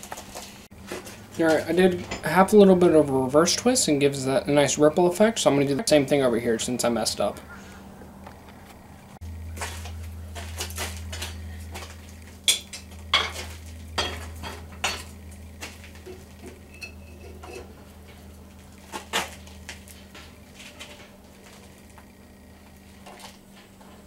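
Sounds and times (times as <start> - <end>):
steady low hum: 0.3 - 24.0.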